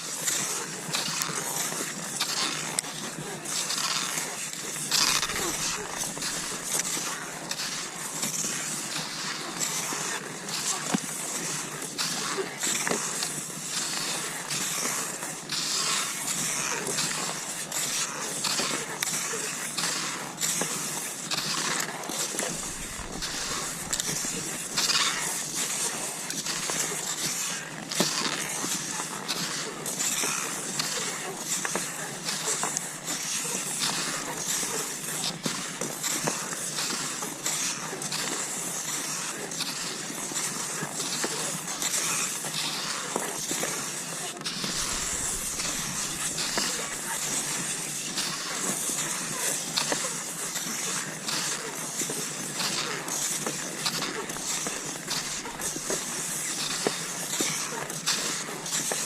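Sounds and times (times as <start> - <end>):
skis swishing over snow: 0.2 - 59.0.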